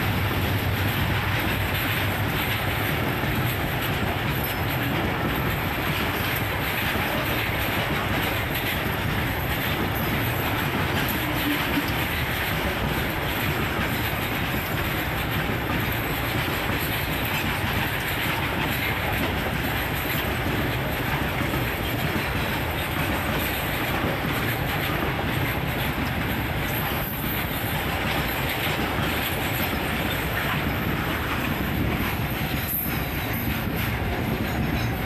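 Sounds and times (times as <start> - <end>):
steel train wheels on rails: 0.0 - 35.0.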